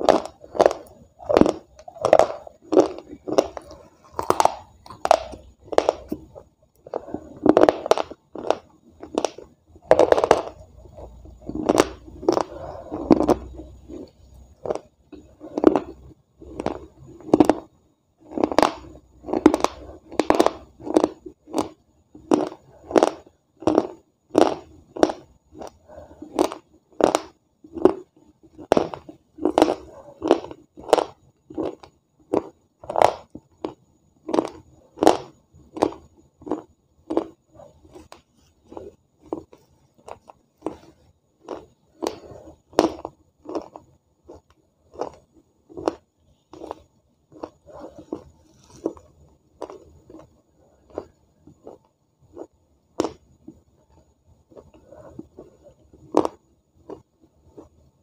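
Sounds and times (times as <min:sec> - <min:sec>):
person chewing crunchy clay: 0:00.0 - 0:58.0.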